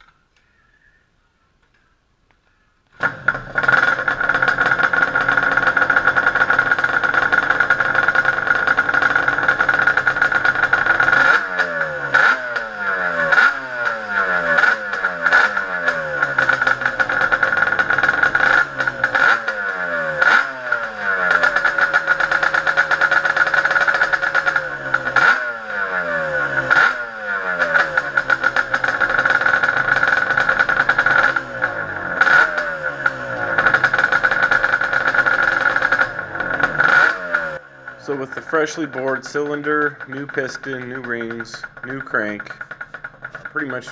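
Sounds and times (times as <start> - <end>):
two-stroke engine revving: 3.0 - 43.9.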